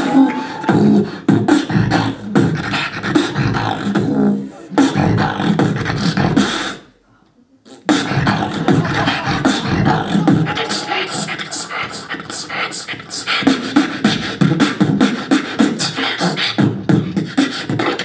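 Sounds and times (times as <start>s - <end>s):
person beatboxing into microphone: 0.0s - 18.0s.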